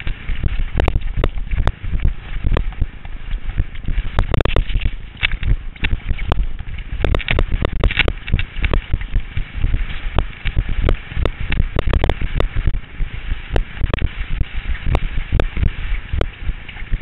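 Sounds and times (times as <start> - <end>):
skis scraping over snow: 0.0 - 17.0
wind rumble on microphone: 0.0 - 17.0.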